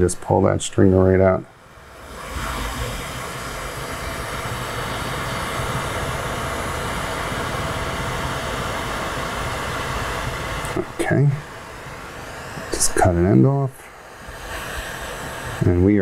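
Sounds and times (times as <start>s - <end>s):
torch flame hissing: 0.0s - 16.0s.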